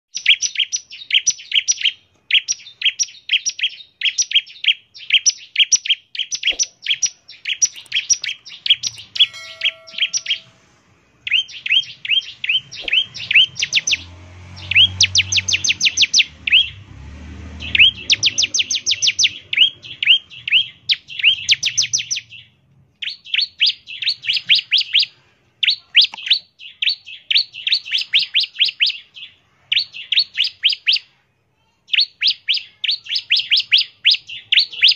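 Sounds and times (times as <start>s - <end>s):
bird singing rapid chirps: 0.1s - 10.6s, 11.2s - 31.2s, 31.9s - 34.9s.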